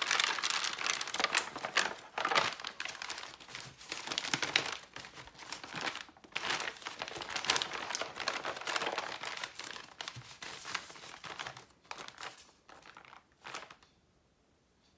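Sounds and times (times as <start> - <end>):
paper rustling and crinkling: 0.0 - 13.8.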